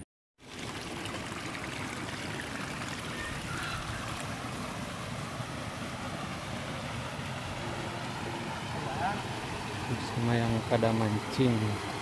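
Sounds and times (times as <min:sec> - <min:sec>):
steady rushing outdoor noise: 0:00.9 - 0:12.0.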